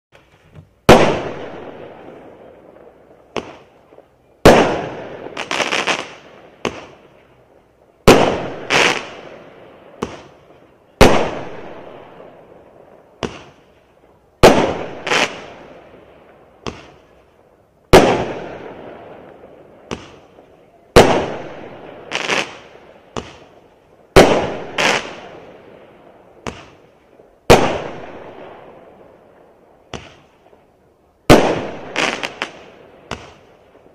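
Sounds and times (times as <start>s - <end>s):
firework stars popping: 0.2s - 7.4s, 8.0s - 33.9s
firework bangs echoing: 0.8s - 7.2s, 8.0s - 13.8s, 14.4s - 17.2s, 17.9s - 30.6s, 31.3s - 33.9s.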